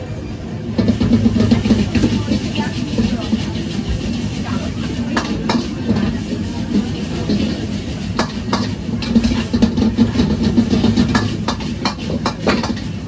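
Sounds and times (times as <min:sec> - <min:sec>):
gas burner rumble: 0:00.0 - 0:13.0
metal ladles clanking on woks: 0:00.8 - 0:13.0.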